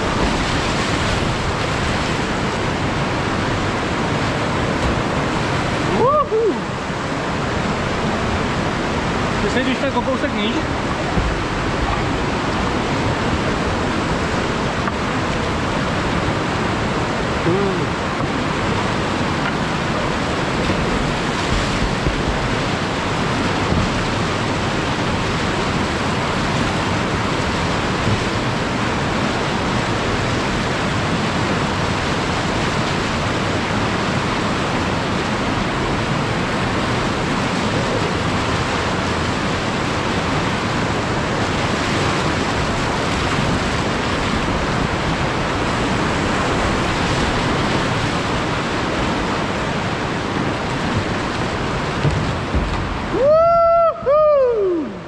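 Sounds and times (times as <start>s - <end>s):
whitewater rapids rushing: 0.0s - 55.0s.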